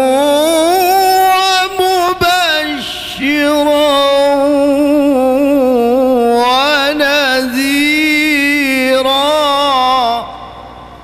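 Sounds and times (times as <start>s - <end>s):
man reciting melodically: 0.0s - 10.9s.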